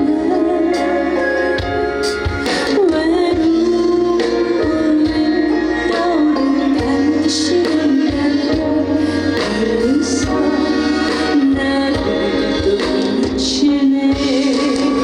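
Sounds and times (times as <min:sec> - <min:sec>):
song played over loudspeakers: 0:00.0 - 0:15.0.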